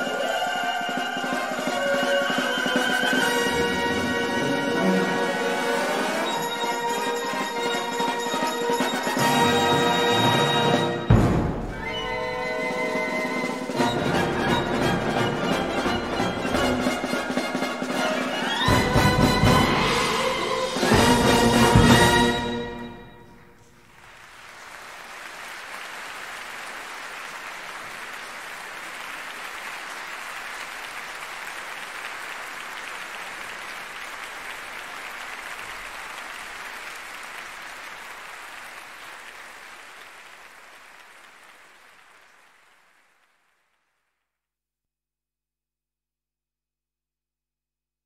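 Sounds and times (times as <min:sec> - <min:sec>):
audience applause: 0:00.0 - 0:44.2.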